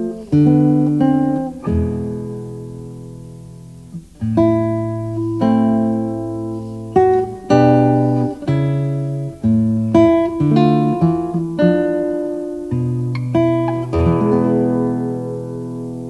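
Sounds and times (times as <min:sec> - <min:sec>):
guitar picked notes and chords: 0:00.0 - 0:16.0.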